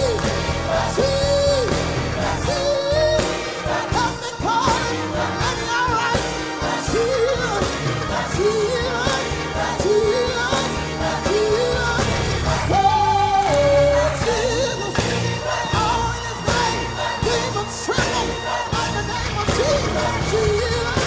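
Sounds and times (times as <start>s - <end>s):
gospel choir singing: 0.0s - 21.0s
instrumental backing with beat: 0.0s - 21.0s
male lead vocalist singing: 0.0s - 21.0s.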